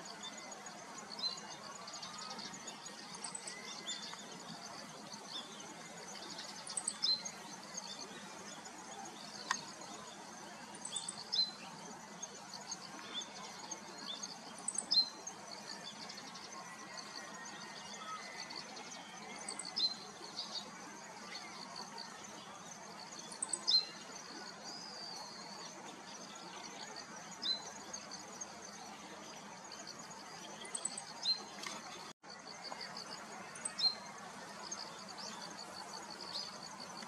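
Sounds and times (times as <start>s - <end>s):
steady background hiss: 0.0s - 37.0s.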